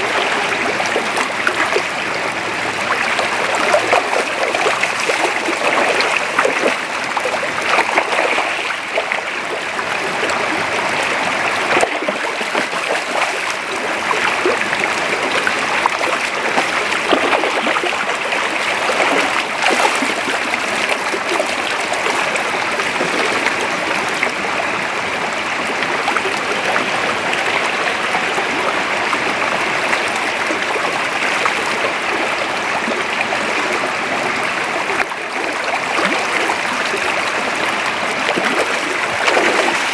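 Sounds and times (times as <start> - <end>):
creek water rushing and gurgling: 0.0 - 39.9.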